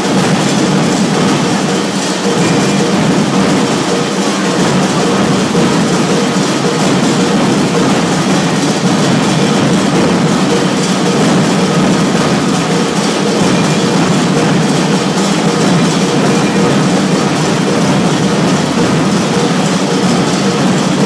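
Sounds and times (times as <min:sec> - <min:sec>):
distorted percussion music: 0:00.0 - 0:21.0.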